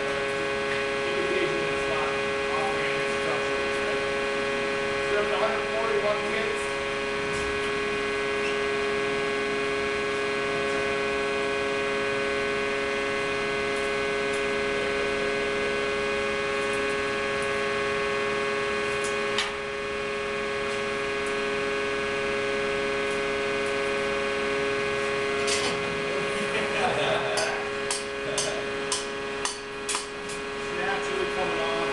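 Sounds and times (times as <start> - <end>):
machine hum: 0.0 - 31.9.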